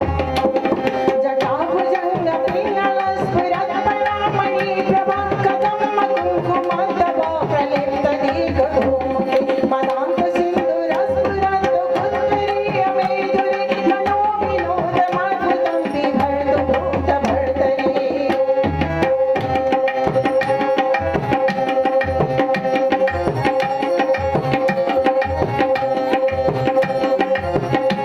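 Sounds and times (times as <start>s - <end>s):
hand drum rhythm: 0.0s - 28.0s
harmonium drone: 0.0s - 28.0s.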